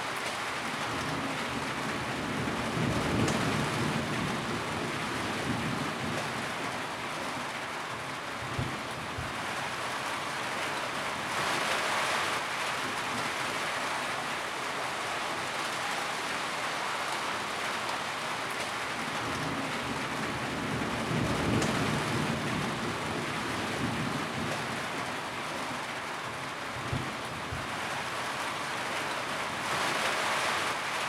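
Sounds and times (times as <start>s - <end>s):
rain drumming on a tin roof: 0.0s - 31.0s.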